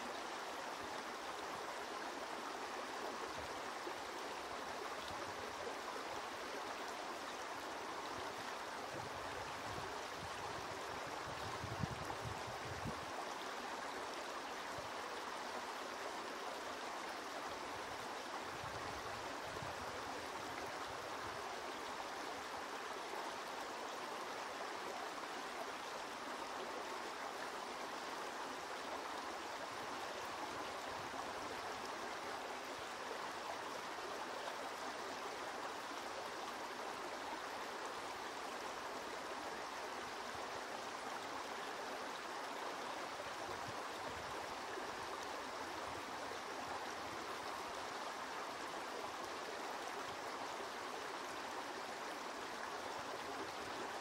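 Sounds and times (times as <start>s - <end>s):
brook water rushing: 0.0s - 54.0s.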